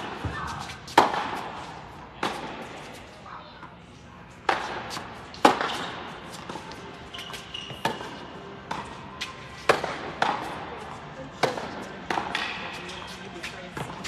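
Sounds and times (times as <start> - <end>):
tennis balls struck by rackets: 0.0 - 3.0, 4.4 - 14.0.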